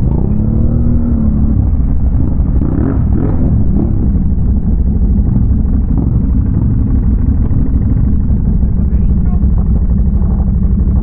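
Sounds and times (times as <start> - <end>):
engine rumbling at low revs: 0.0 - 11.0.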